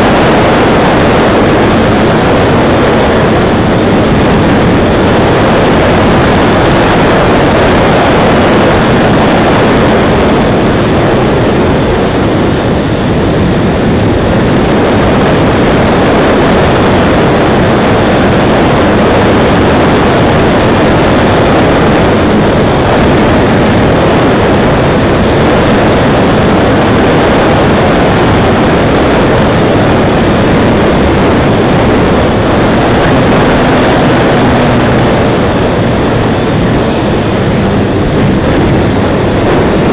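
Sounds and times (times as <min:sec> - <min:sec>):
propeller and motor noise: 0:00.0 - 0:39.9
wind over microphone: 0:00.0 - 0:39.9.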